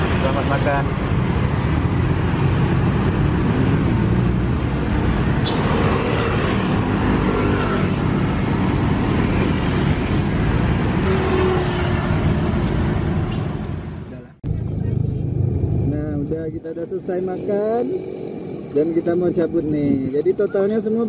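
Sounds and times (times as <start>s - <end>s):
cars passing: 0.0s - 21.0s
motorbikes passing: 0.0s - 21.0s.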